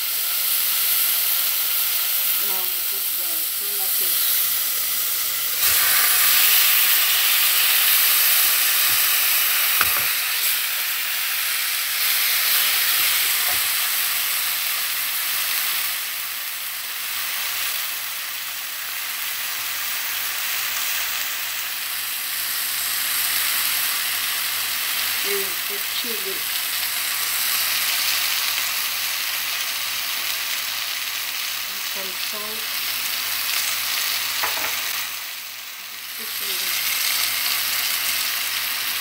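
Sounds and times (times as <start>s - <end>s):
fish sizzling in hot oil: 0.0s - 39.0s.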